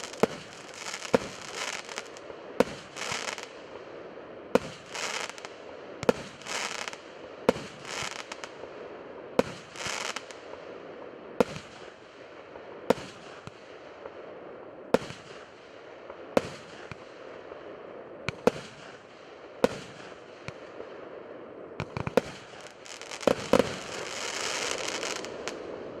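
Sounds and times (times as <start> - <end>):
fireworks bangs: 0.0 - 3.9, 4.5 - 14.2, 18.3 - 26.0
fireworks crackling: 0.0 - 14.3, 15.0 - 26.0.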